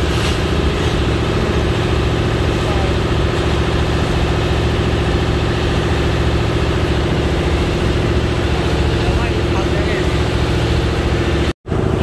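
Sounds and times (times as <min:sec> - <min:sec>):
boat diesel engine chugging: 0:00.0 - 0:12.0
water splashing off hull: 0:00.0 - 0:12.0.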